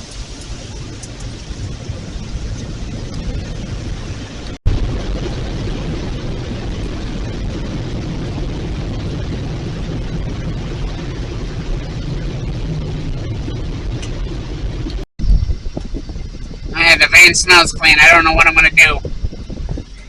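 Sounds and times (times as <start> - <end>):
rushing noise inside van: 0.0 - 20.0.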